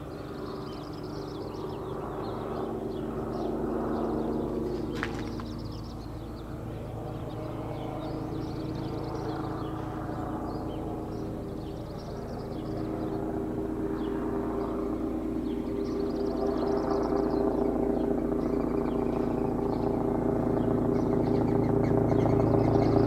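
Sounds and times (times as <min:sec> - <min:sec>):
helicopter rotor drone: 0:00.0 - 0:23.0.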